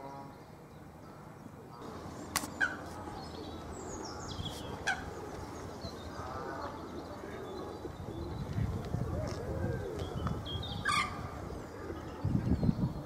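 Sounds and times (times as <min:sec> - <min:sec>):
faint bird chatter: 0:00.0 - 0:13.0.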